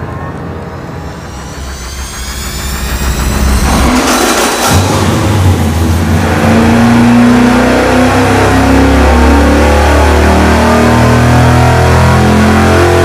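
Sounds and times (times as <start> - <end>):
engine running wide open rising: 0.0 - 13.0.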